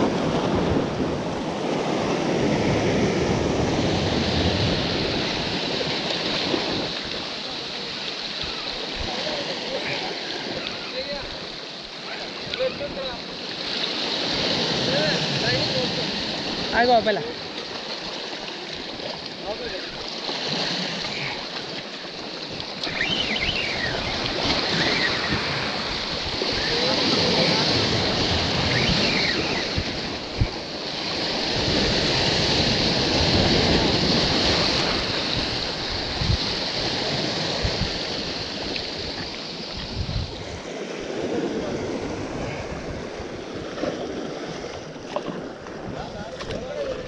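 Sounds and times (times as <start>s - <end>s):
surf washing over rocks: 0.0s - 47.0s.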